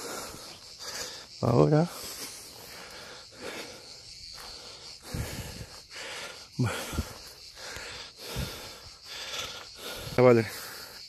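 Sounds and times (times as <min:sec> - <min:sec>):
person breathing: 0:00.0 - 0:11.0.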